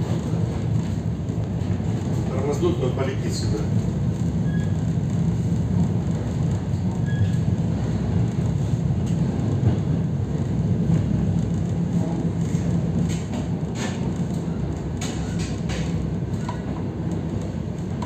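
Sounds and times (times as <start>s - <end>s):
wheels rumbling on rails: 0.0s - 18.0s.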